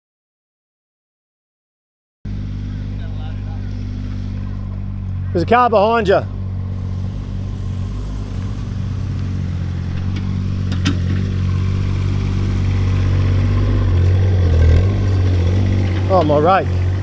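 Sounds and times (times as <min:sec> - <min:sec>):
engine running at low speed: 0:02.3 - 0:17.0.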